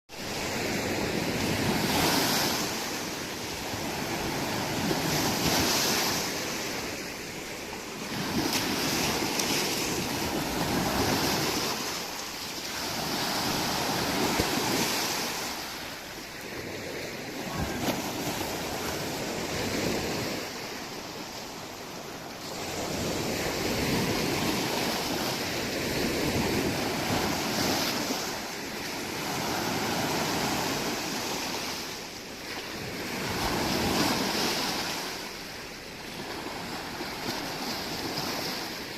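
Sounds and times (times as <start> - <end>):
wind: 0.0 - 38.9
waves breaking on shore: 0.1 - 38.9.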